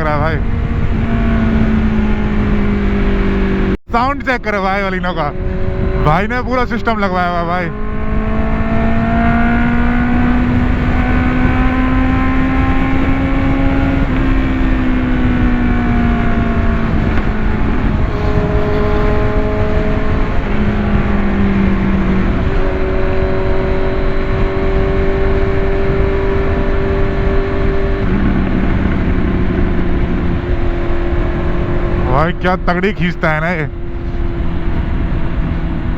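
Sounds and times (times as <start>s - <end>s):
wind rush on microphone: 0.0s - 3.8s, 5.1s - 32.6s, 33.2s - 35.9s
engine and exhaust noise: 0.0s - 35.9s.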